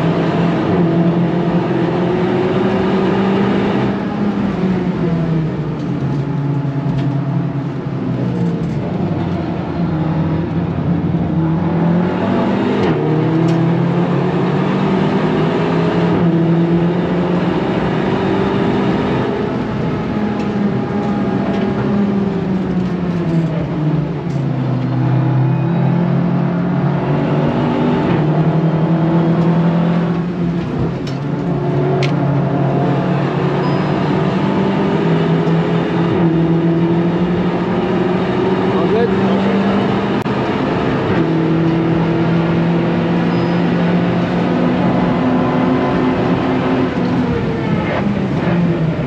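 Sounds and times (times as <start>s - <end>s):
car engine accelerating and braking: 0.0s - 49.0s
road and tyre noise: 0.0s - 49.0s.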